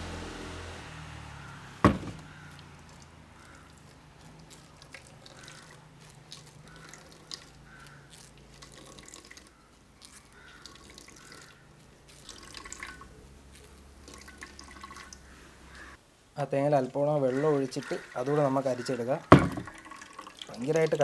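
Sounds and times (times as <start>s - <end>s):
liquid dripping through strainer: 1.9s - 16.0s, 17.0s - 21.0s.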